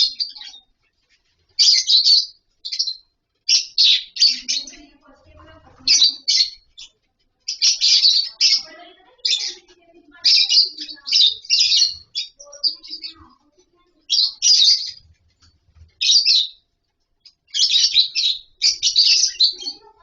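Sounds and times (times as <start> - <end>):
lovebirds chirping and squawking: 0.0 - 20.0.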